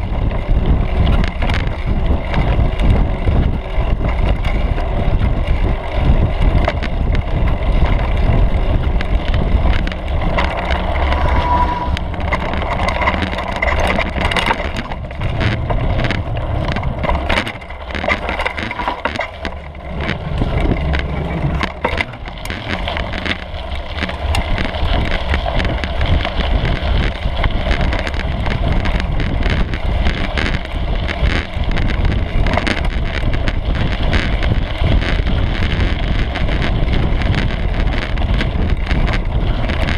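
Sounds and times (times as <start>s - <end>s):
bike rattling over bumps: 0.0s - 39.9s
wind and tyres rumbling: 0.0s - 39.9s.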